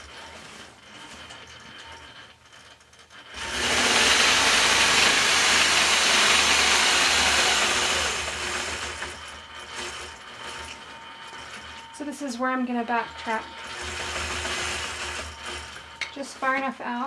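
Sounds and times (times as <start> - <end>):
quilting machine stitching: 0.0 - 16.7.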